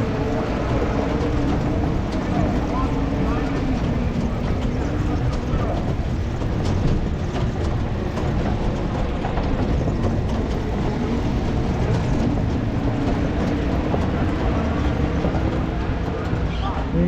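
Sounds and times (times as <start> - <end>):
racing car engines droning: 0.0 - 17.0.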